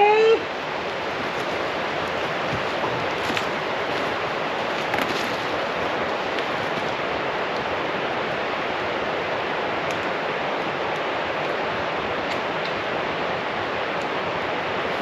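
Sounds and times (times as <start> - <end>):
campfire crackles: 0.4 - 15.0
steady rushing noise: 0.4 - 15.0.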